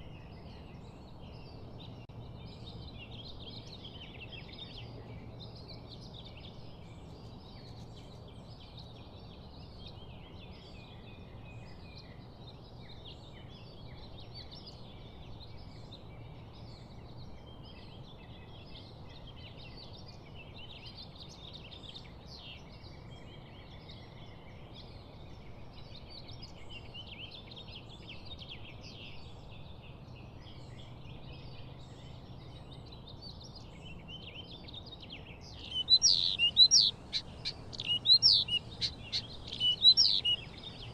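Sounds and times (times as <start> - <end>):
low background hum: 0.0 - 40.9
small birds chirping: 0.0 - 40.9.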